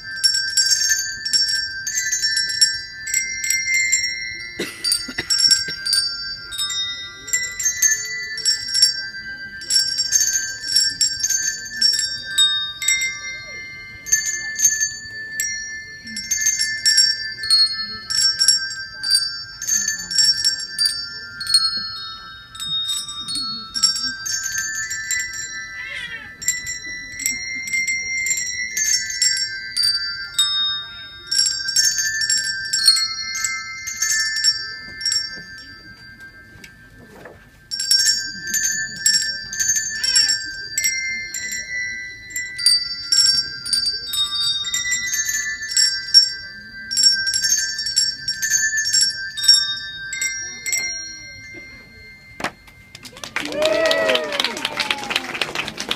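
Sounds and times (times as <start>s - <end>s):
handbells ringing a tune: 0.0s - 55.9s.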